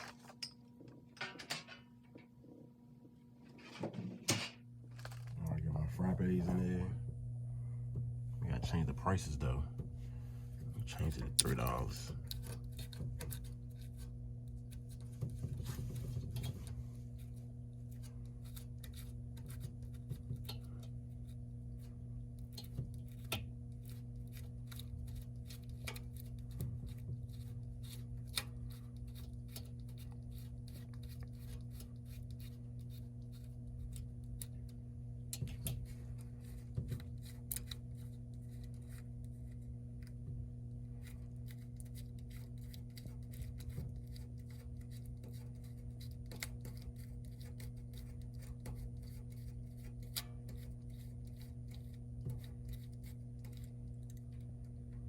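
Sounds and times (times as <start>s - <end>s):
vending machine humming: 3.2s - 55.0s.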